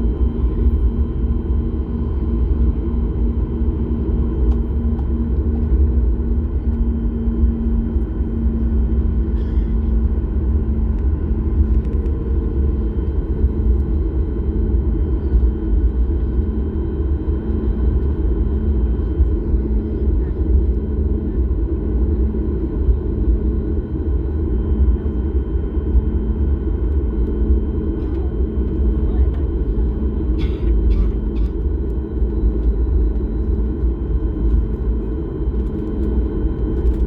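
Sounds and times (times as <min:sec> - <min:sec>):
constant cabin hum: 0:00.0 - 0:37.0
jet engine rumble: 0:00.0 - 0:37.0.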